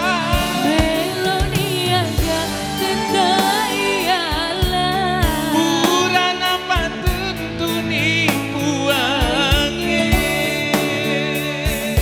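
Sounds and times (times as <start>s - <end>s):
live band: 0.0s - 12.0s
person singing: 0.0s - 12.0s
steady drum beat: 0.0s - 12.0s.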